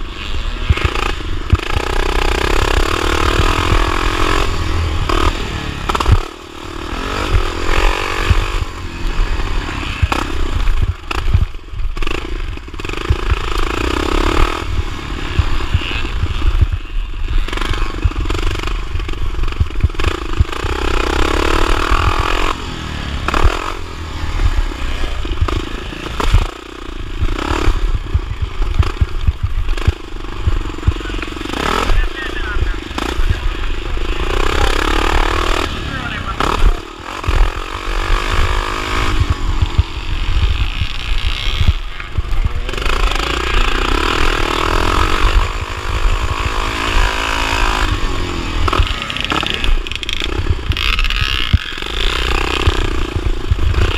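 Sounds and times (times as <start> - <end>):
motorcycle engine racing: 0.0 - 53.9.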